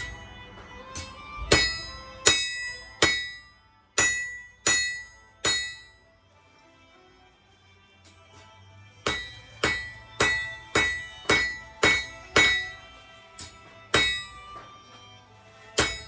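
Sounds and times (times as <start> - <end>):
hammer striking metal on anvil: 0.0 - 6.1, 8.1 - 14.8, 15.7 - 16.0.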